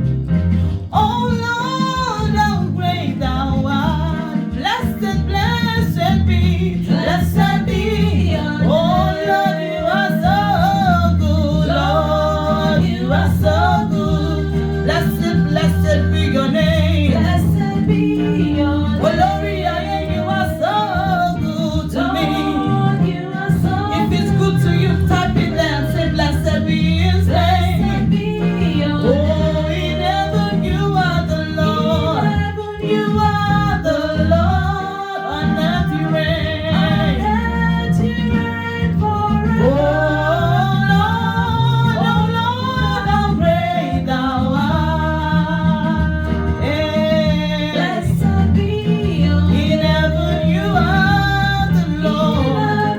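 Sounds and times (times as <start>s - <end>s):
instrumental backing: 0.0s - 52.9s
person singing: 0.9s - 52.9s.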